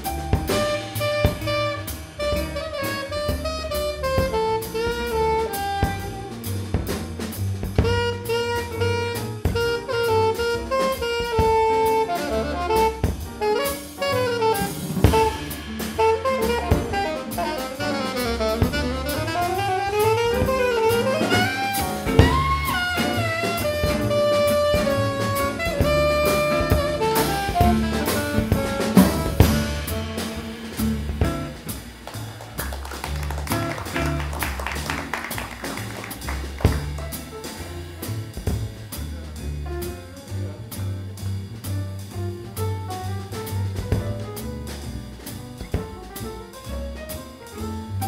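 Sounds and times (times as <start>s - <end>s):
small jazz combo playing: 0.0s - 48.0s.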